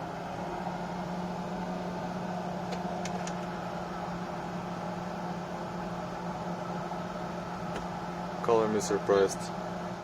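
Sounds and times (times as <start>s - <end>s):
heater blower fan humming: 0.0s - 10.0s.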